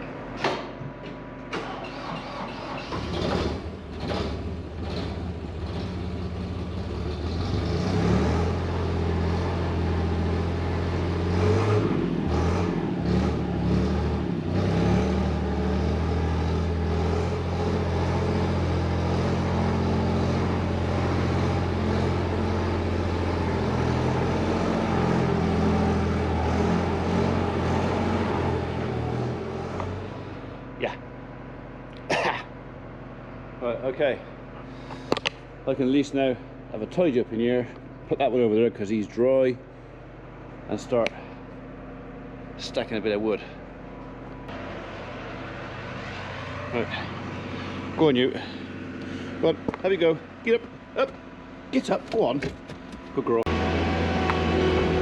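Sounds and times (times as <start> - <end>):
farm machine engine running: 0.0 - 7.4, 8.3 - 31.9, 41.4 - 55.0.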